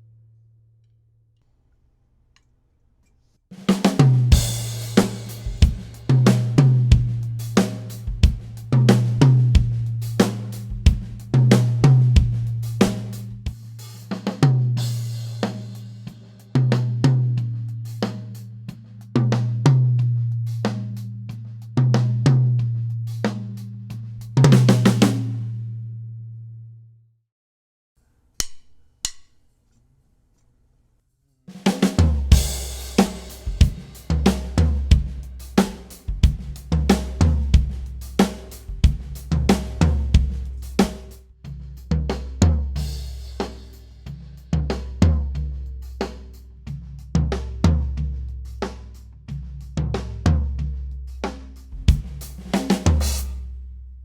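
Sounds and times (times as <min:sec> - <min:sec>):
drum kit beat: 0:03.5 - 0:25.4, 0:31.5 - 0:53.5.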